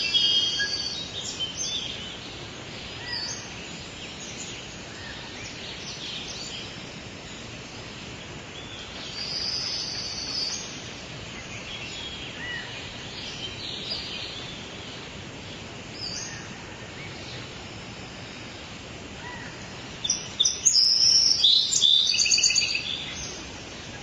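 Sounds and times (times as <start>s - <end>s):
birds calling: 0.0s - 24.0s
steady hiss: 0.0s - 24.0s.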